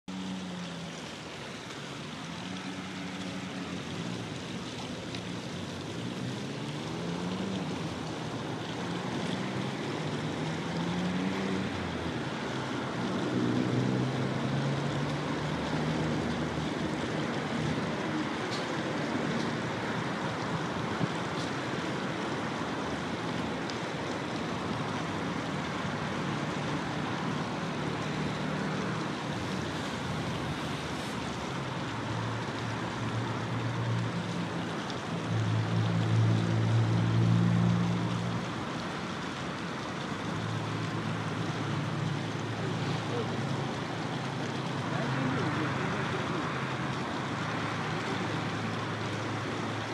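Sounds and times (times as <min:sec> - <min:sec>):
traffic rushing: 0:00.0 - 0:49.9
passing vehicle engines: 0:00.1 - 0:49.9.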